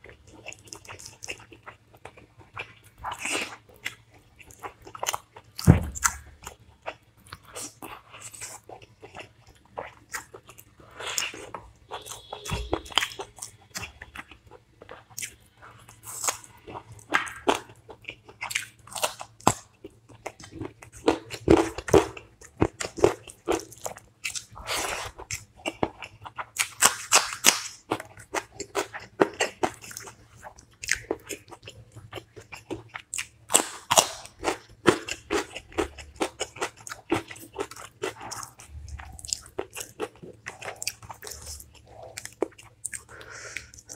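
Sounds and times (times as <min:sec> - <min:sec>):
crunchy bites and chewing: 0:00.0 - 0:43.9.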